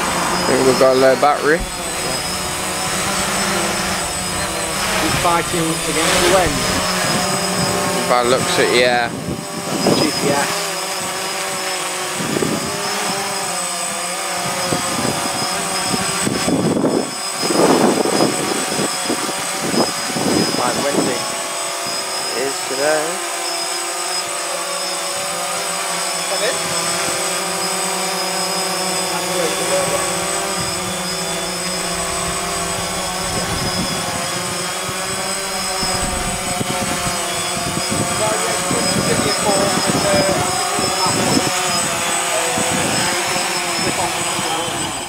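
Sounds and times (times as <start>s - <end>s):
drone propellers whining: 0.0s - 45.0s.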